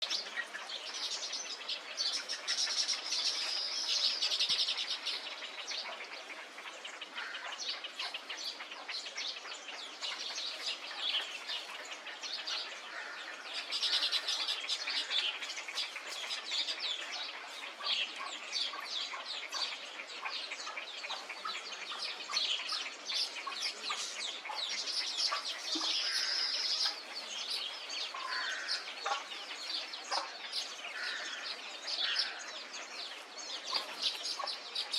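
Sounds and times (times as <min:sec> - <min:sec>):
chorus of birds chirping: 0:00.0 - 0:34.9.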